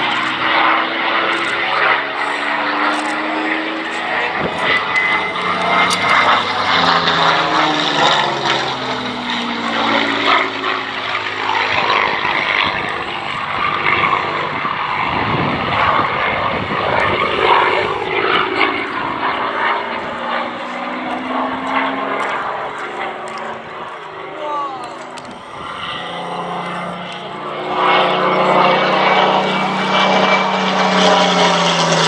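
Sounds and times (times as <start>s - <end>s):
propeller plane engine drone: 0.0s - 32.0s
rush of engine and propeller: 0.0s - 32.0s.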